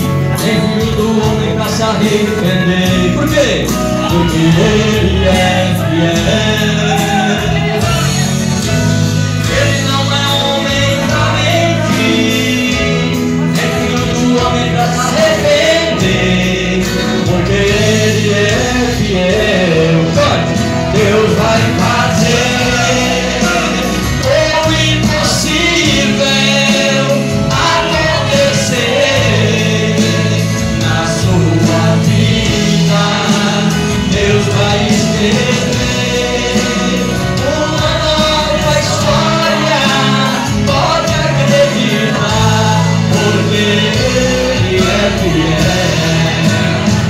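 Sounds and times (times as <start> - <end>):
amplified backing music: 0.0 - 47.0
man singing into a microphone: 0.0 - 47.0.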